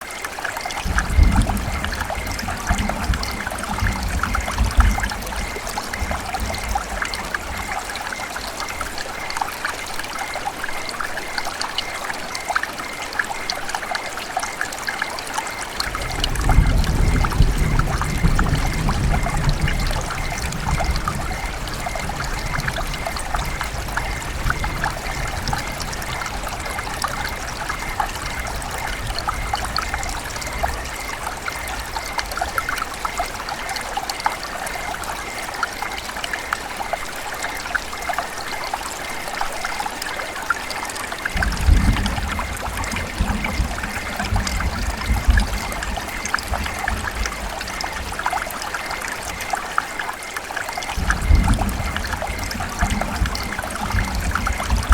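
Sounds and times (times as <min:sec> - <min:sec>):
river water babbling: 0:00.0 - 0:54.9.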